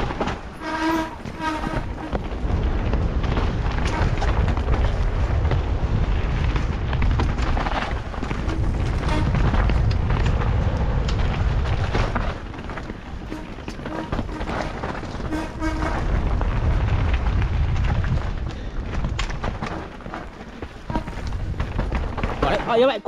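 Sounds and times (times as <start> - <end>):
bike tyres and frame rattling: 0.0 - 23.0
wind rush on microphone: 0.0 - 23.0.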